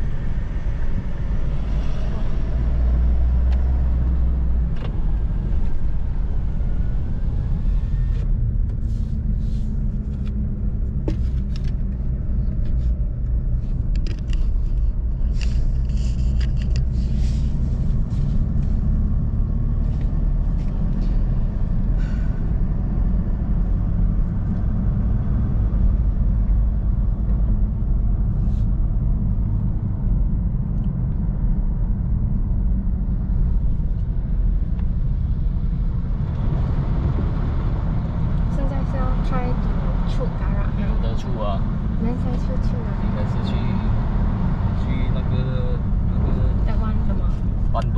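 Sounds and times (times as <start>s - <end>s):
vehicle engine droning: 0.0s - 47.9s.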